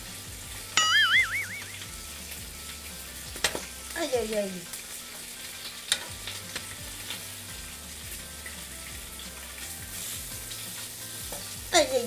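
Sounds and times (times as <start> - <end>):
pork sizzling on a grill pan: 0.0 - 12.0.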